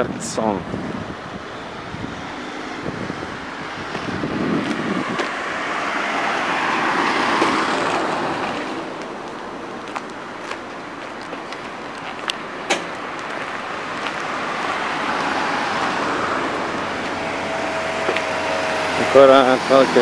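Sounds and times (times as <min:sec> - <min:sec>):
road and tyre noise: 0:00.0 - 0:20.0
vehicle passing: 0:00.6 - 0:11.0, 0:11.7 - 0:20.0.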